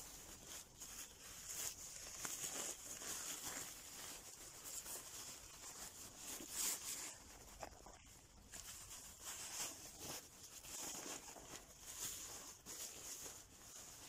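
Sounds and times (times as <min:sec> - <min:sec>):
tent fabric rustling: 0:00.0 - 0:14.0.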